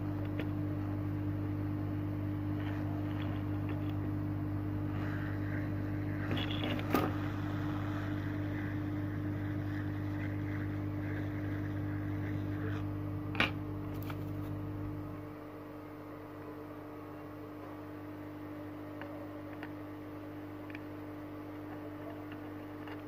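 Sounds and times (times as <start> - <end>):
hot air blower humming: 0.0 - 23.0.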